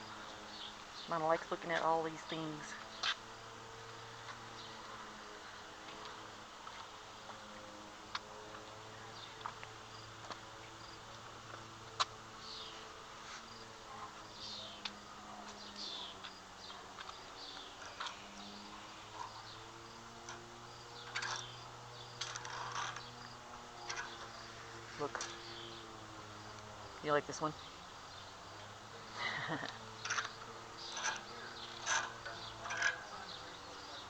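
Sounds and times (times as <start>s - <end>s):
low buzzing hum: 0.0s - 34.0s.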